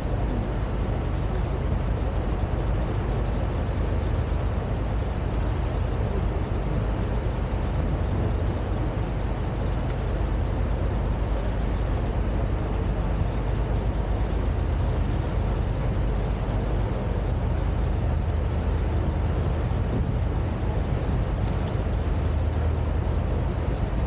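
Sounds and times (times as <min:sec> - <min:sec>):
boat engine drone: 0:00.0 - 0:24.0
rush of water: 0:00.0 - 0:24.0.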